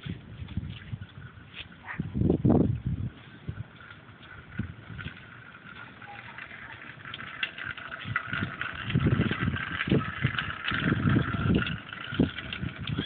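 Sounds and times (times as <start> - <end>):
low rumbling: 0.0 - 13.0.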